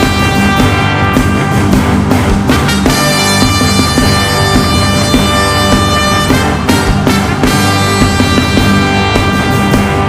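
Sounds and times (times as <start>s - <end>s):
buzzy horn blast: 0.0s - 10.0s
live band music with drum beat: 0.0s - 10.0s.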